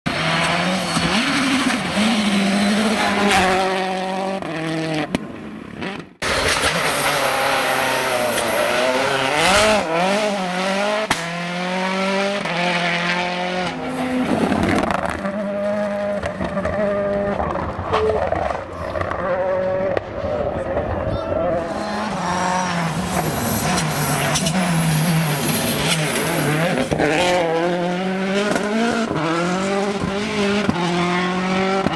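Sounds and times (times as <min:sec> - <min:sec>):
rally car engines revving: 0:00.1 - 0:31.9.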